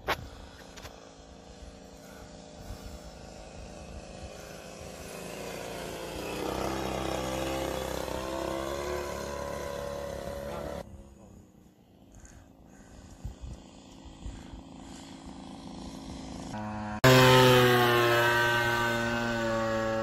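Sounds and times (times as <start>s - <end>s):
model plane engine drone: 0.0s - 20.0s.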